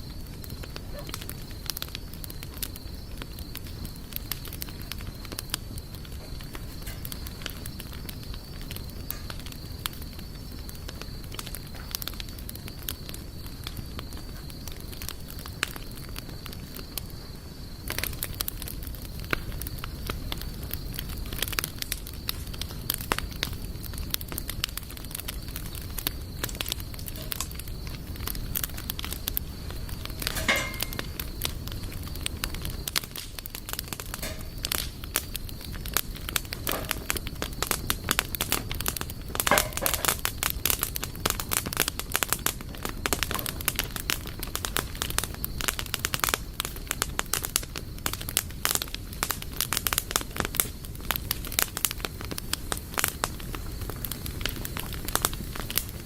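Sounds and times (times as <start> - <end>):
burning wood crackling and popping: 0.0 - 56.0
campfire flames rushing: 0.0 - 56.0.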